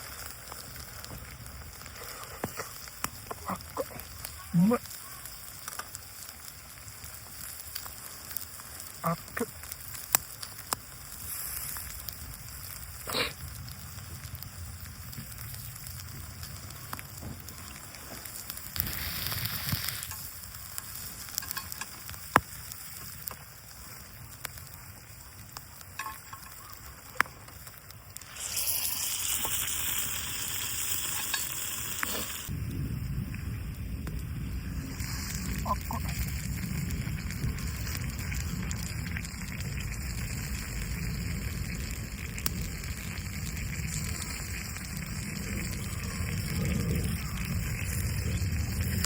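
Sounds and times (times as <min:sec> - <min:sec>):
food sizzling in a pan: 0:00.0 - 0:49.0.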